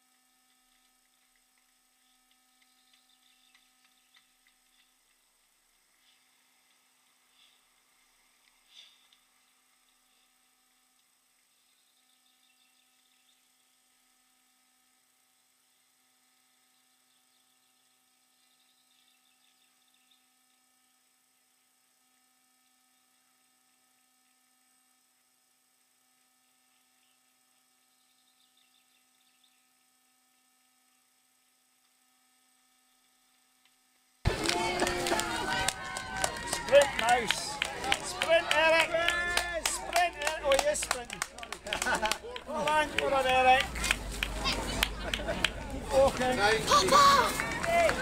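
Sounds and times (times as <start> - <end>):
faint electrical hum: 0.0 - 48.0.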